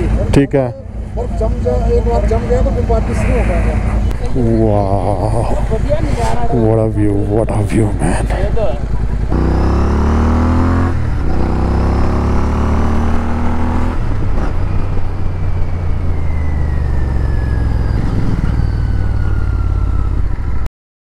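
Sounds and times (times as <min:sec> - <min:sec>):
motorcycle engine running: 0:00.0 - 0:20.5.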